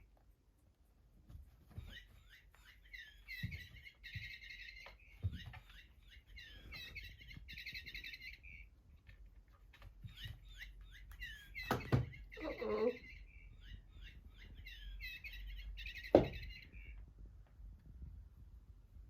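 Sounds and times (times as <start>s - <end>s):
squeaky toy ball chirping: 1.7s - 17.1s.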